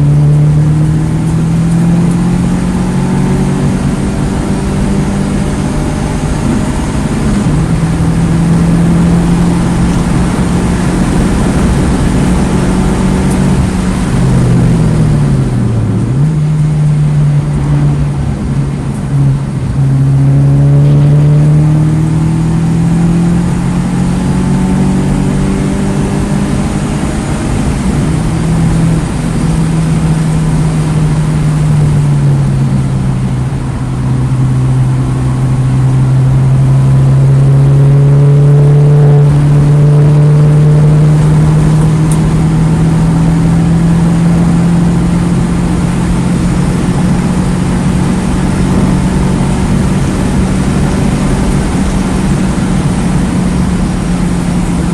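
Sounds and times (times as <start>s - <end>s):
car engine running hard: 0.0s - 54.9s.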